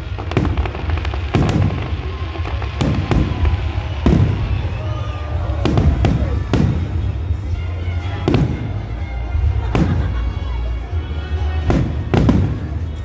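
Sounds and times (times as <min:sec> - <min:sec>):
background music: 0:00.0 - 0:13.0
fireworks bursting: 0:00.0 - 0:13.0
low rumble after bangs: 0:00.0 - 0:13.0.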